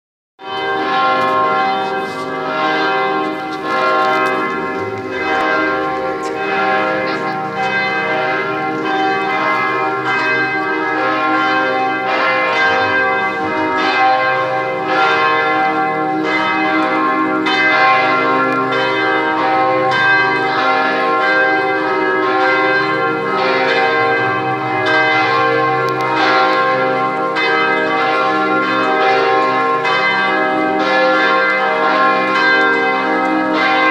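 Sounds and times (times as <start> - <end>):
church bells pealing: 0.4 - 33.9.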